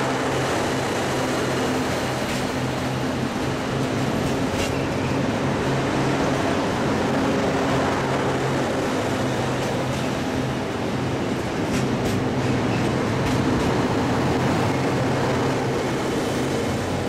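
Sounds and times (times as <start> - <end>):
train engine drone: 0.0 - 17.0
train wheels rolling on rails: 0.0 - 17.0.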